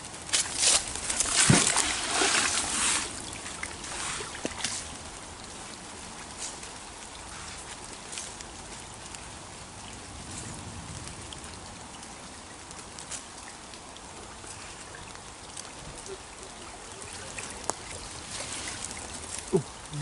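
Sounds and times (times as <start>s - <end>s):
brook water flowing: 0.0s - 20.0s.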